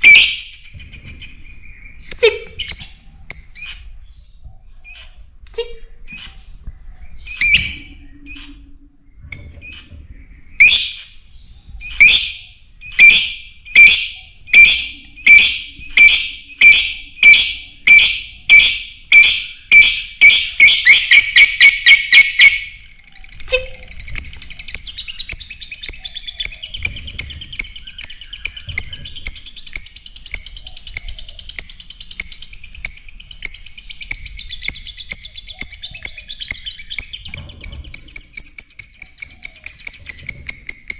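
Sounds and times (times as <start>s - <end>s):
lovebird chirping: 0.0s - 40.9s.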